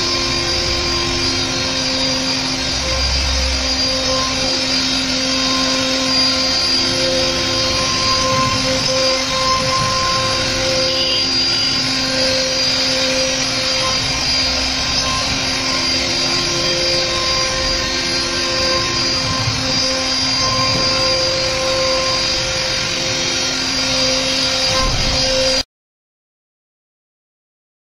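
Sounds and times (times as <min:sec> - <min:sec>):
held tones: 0:00.0 - 0:25.6
router spindle whining: 0:00.0 - 0:25.6.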